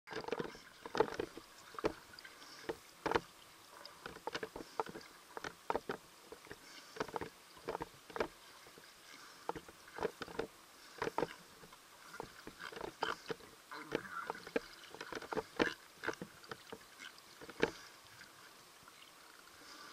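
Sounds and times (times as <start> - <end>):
underwater popping and clicking: 0.1 - 8.8, 9.5 - 17.8
water sloshing and bubbling: 0.1 - 19.9.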